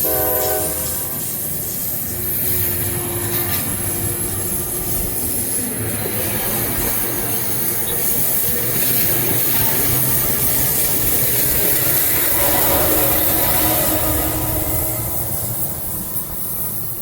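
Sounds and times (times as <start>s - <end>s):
train passing on rails: 0.0s - 17.0s.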